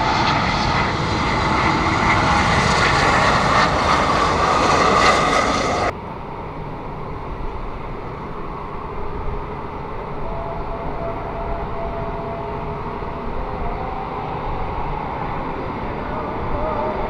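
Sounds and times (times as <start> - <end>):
faint jet whine: 0.0 - 17.0
jet engines rumbling: 0.0 - 17.0.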